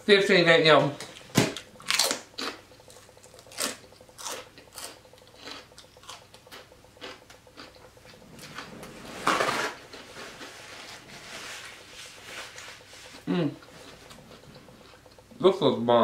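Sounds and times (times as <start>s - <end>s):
chewing crunchy pork rinds: 1.1s - 15.9s.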